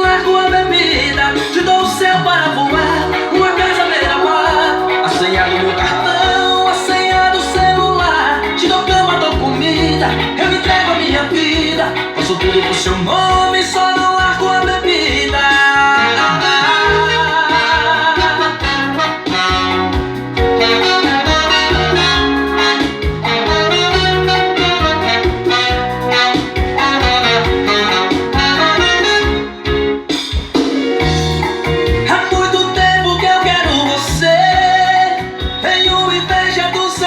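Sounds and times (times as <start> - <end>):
pop music on car sound system: 0.0 - 37.0.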